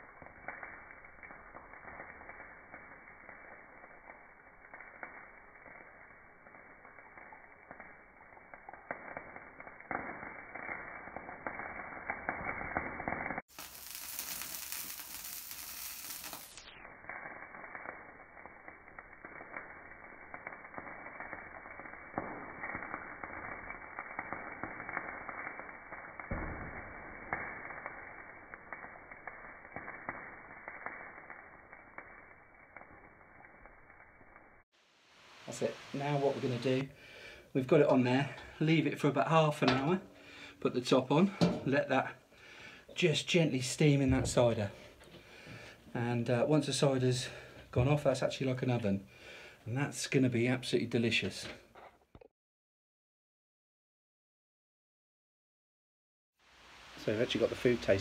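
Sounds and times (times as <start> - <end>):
fire crackling and popping: 0.0 - 52.0, 56.4 - 58.0.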